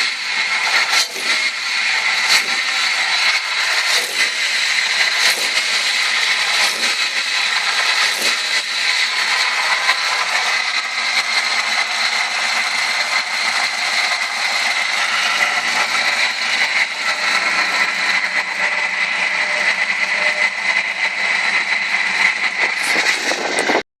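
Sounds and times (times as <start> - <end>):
car engine running: 0.0 - 23.8
high-pitched whine: 0.0 - 23.8.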